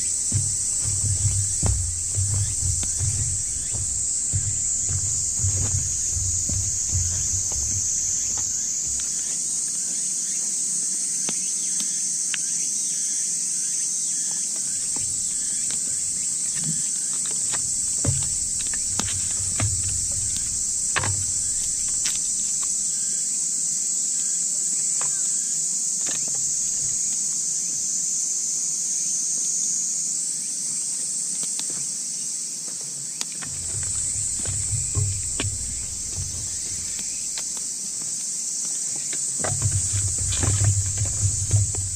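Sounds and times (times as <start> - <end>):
night insects trilling: 0.0 - 41.9.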